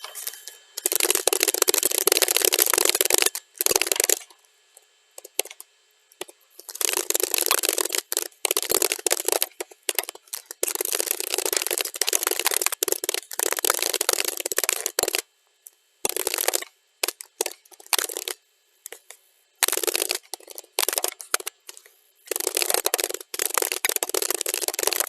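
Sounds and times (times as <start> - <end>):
fast typing on keyboard: 0.8 - 4.3, 5.2 - 5.6, 6.2 - 15.2, 16.0 - 19.0, 19.6 - 25.0.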